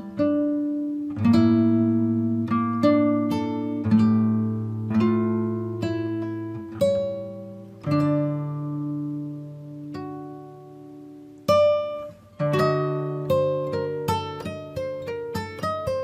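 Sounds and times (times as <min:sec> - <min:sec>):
acoustic guitar picking notes: 0:00.0 - 0:16.0.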